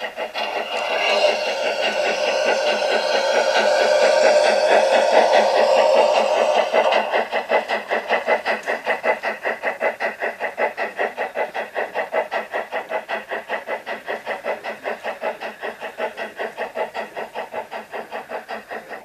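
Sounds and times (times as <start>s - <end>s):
model locomotive steam chuffs: 0.0s - 19.0s
steam hiss: 0.0s - 19.0s.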